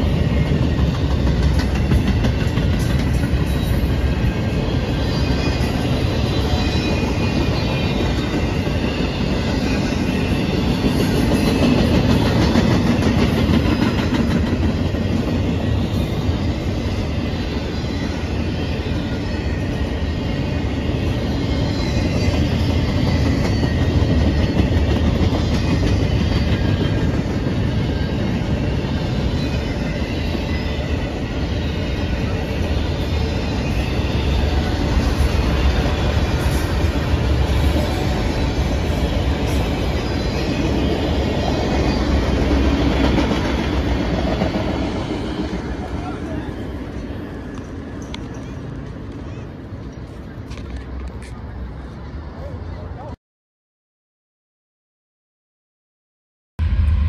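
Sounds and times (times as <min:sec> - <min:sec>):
freight train wheels rumbling on rail: 0:00.0 - 0:53.2.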